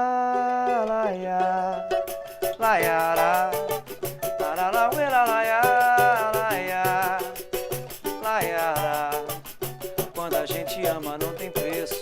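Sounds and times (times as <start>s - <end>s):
shaker rhythm: 0.4s - 12.0s
sliding melodic line: 0.7s - 12.0s.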